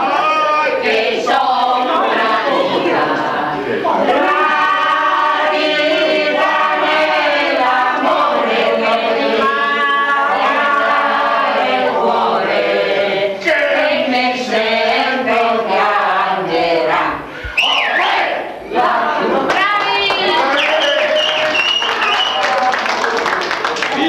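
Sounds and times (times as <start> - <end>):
group singing loudly: 0.0 - 21.9.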